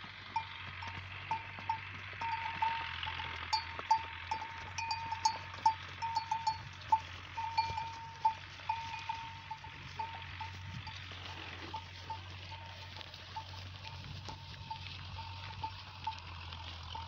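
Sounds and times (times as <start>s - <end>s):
animal neck bells ringing: 0.0s - 17.0s.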